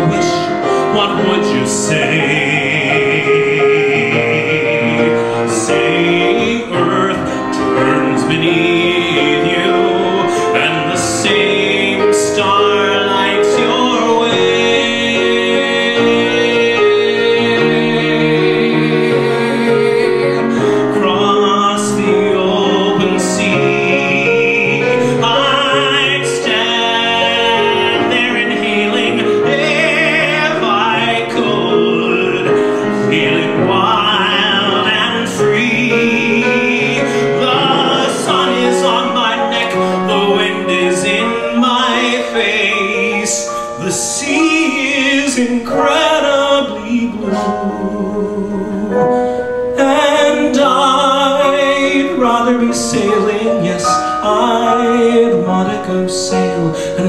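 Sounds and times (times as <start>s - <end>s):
man singing with vibrato: 0.0s - 57.0s
piano accompaniment: 0.0s - 57.0s.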